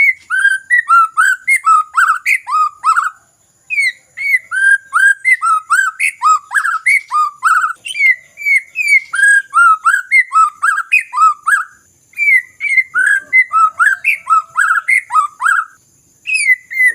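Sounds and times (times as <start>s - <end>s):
bird singing whistled notes: 0.0s - 16.9s.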